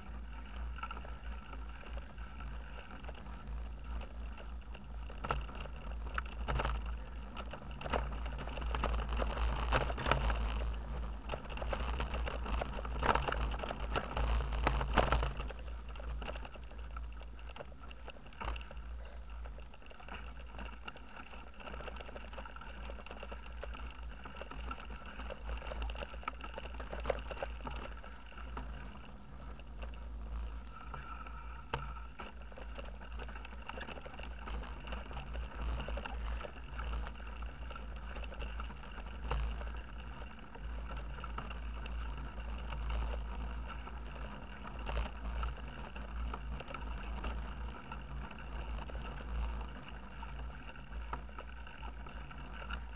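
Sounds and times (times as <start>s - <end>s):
bike rattling and knocking: 0.0s - 52.9s.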